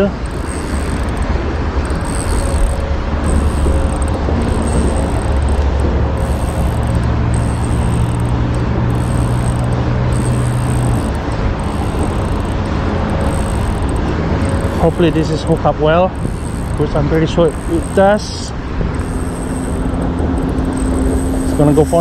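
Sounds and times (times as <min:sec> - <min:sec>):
road traffic rumble: 0:00.0 - 0:22.0
vehicle engine hum: 0:00.0 - 0:22.0.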